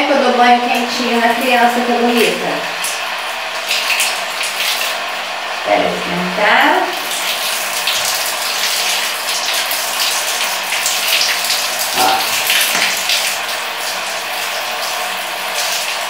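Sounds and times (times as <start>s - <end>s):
shower spraying on tiles: 0.6s - 6.2s, 6.8s - 16.0s.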